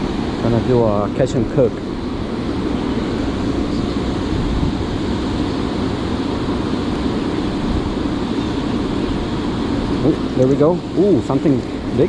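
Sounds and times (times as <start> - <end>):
water roaring at a dam: 0.0 - 12.0.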